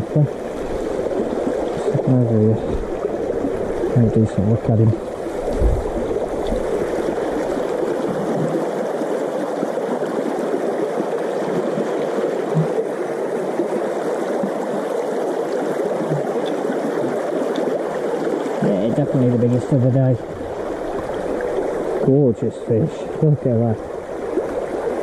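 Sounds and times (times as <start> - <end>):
stream water babbling: 0.0 - 25.0.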